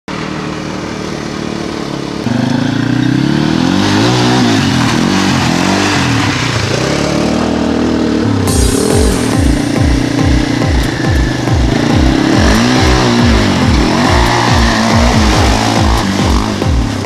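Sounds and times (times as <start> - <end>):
quad bike engines revving: 0.1 - 17.0.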